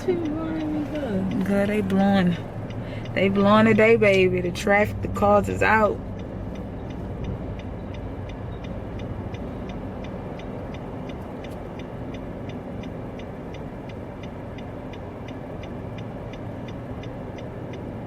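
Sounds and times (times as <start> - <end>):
road and engine noise in car: 0.0 - 18.0
turn signal clicking: 0.0 - 18.0.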